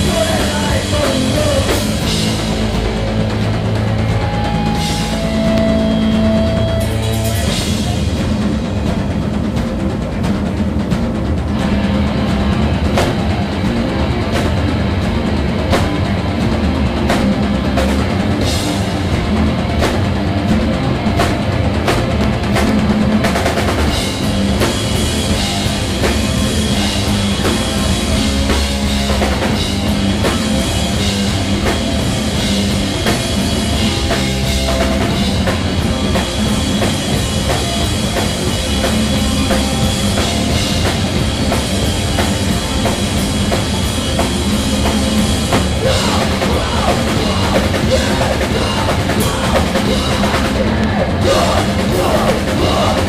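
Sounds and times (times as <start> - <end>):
bass guitar: 0.0 - 53.0
distorted electric guitar: 0.0 - 53.0
drum kit: 0.0 - 53.0.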